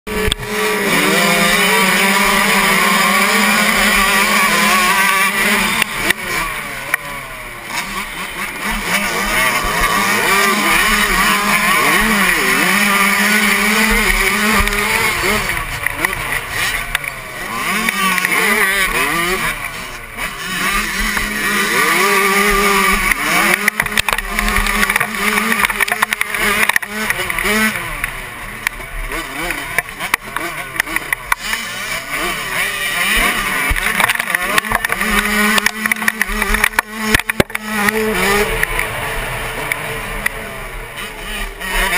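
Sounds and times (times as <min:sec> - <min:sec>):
motocross bike engine revving: 0:00.1 - 0:41.9.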